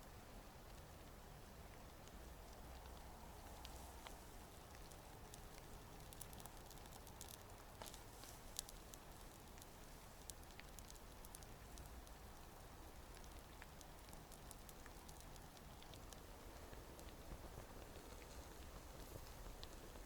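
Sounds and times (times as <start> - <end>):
log fire crackling: 0.0 - 20.0.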